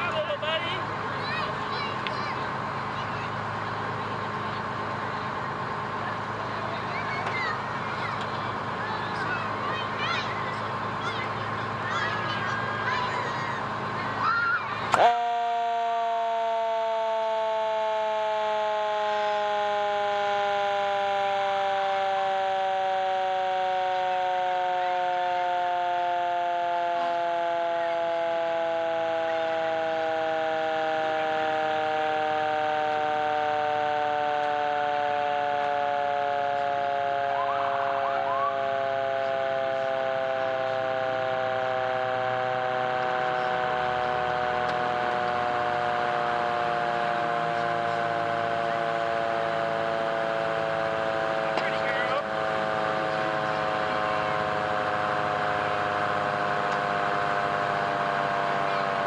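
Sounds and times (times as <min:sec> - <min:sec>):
mechanical siren winding down: 0:10.8 - 0:59.0.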